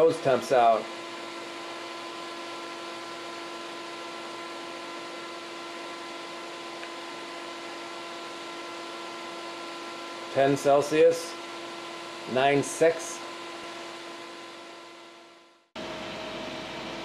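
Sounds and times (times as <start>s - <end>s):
electric fan whirring: 0.0s - 17.0s
water pump humming: 0.0s - 17.0s.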